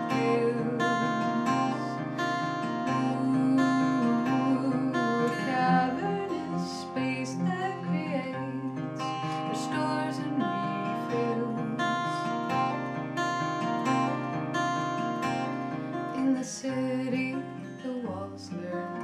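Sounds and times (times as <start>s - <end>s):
person singing: 0.0s - 13.0s, 15.9s - 19.0s
acoustic guitar strumming: 0.0s - 19.0s.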